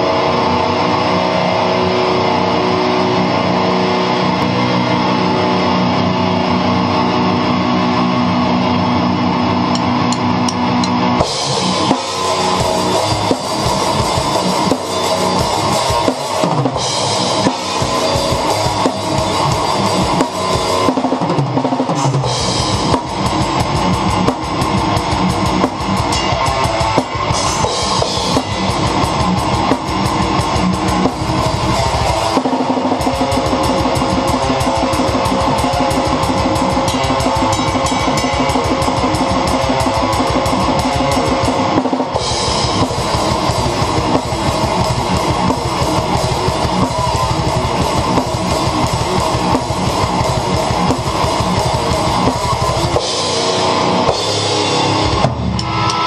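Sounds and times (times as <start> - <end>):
sustained electric guitar chords: 0.0 - 56.0
fast bass drum strokes: 9.7 - 56.0
rapid snare and cymbal strokes: 9.7 - 56.0.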